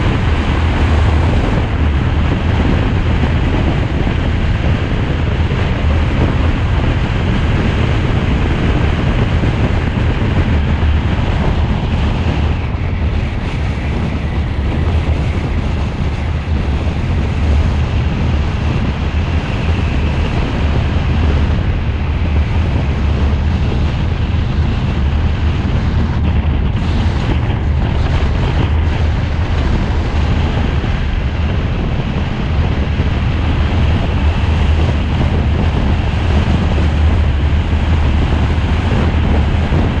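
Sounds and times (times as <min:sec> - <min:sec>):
vehicle road noise: 0:00.0 - 0:40.0
wind rumble on microphone: 0:00.0 - 0:40.0.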